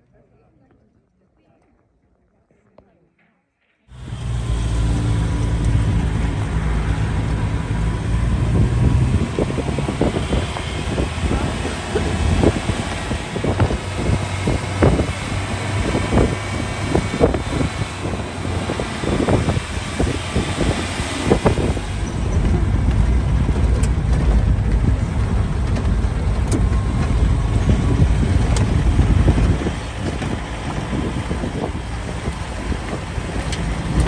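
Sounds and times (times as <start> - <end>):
jeep engine and tyre rumble: 3.9 - 34.0
knocks and rattles over bumps: 3.9 - 34.0.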